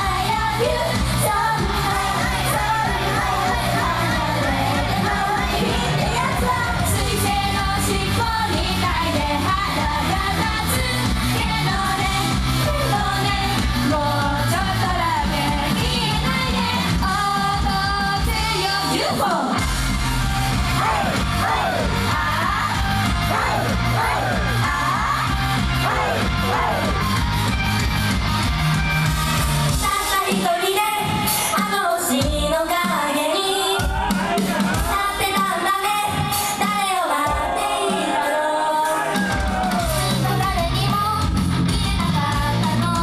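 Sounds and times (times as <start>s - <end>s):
girls singing pop song: 0.0s - 19.8s, 20.6s - 27.7s, 29.7s - 43.0s.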